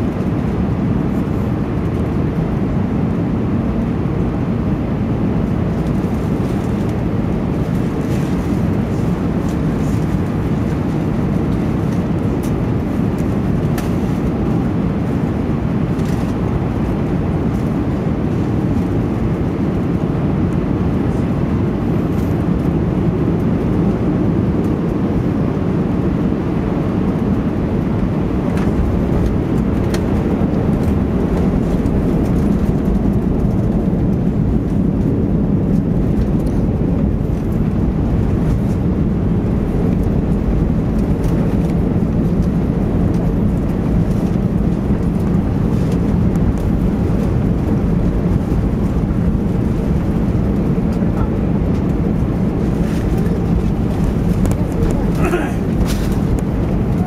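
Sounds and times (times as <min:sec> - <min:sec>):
aircraft cabin engine rumble: 0:00.0 - 0:57.0.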